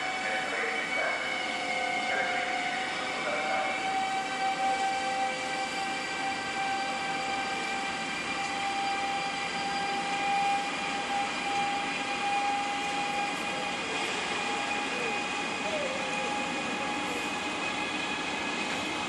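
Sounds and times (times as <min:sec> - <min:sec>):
electric locomotive running: 0:00.0 - 0:19.0.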